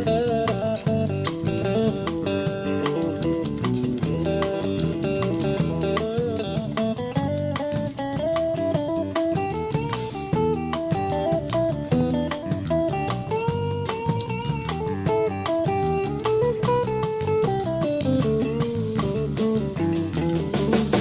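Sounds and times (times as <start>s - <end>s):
bass: 0.0s - 21.0s
electric guitar lead line: 0.0s - 21.0s
hand percussion beat: 0.0s - 21.0s.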